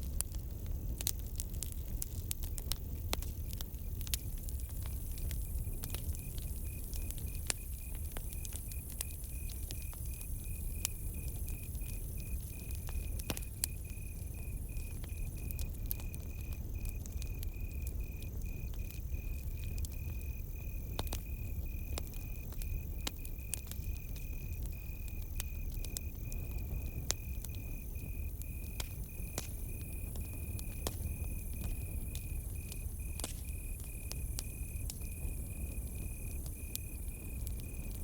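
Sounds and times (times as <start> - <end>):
campfire crackling and popping: 0.0 - 38.0
cricket chirping: 0.6 - 38.0.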